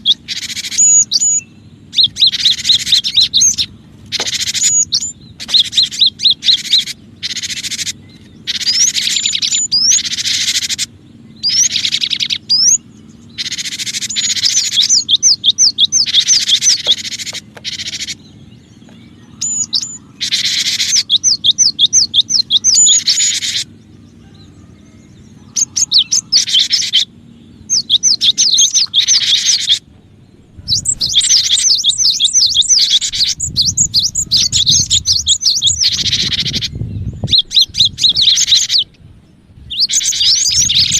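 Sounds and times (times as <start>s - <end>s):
bird song high sweeping notes: 0.0s - 40.9s.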